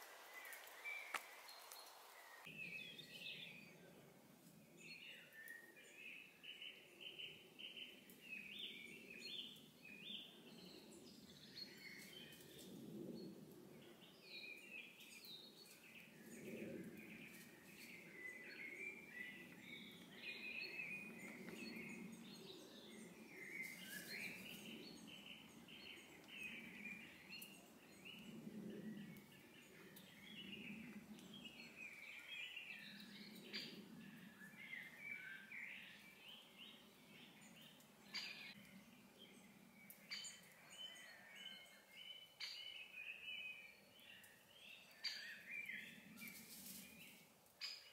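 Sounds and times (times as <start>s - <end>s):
songbirds chirping and warbling: 0.0s - 47.9s.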